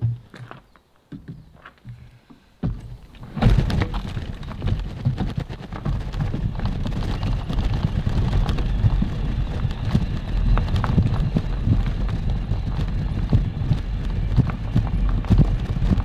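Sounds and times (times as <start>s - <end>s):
tyres crunching on gravel: 1.4s - 16.0s
bike rattling: 2.6s - 16.0s
low rumble: 2.9s - 16.0s.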